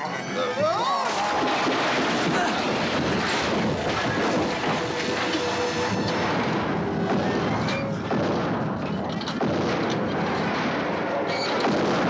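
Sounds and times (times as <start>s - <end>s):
sheet metal rattling and tearing: 0.9s - 11.8s.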